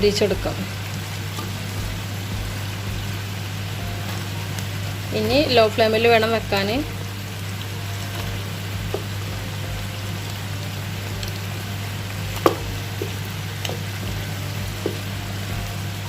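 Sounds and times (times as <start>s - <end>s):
chicken sizzling in a pan: 0.0s - 16.0s
steady low hum: 0.0s - 16.0s.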